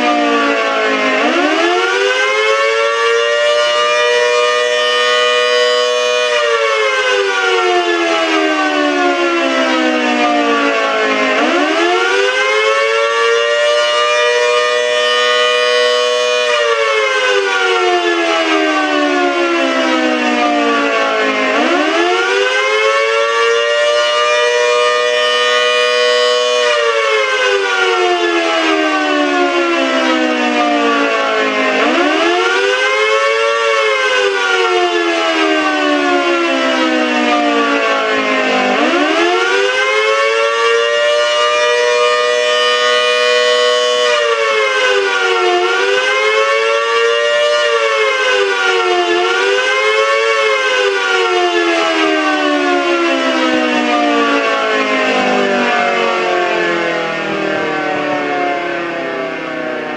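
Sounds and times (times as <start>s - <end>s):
civil defense siren wailing: 0.0s - 59.9s.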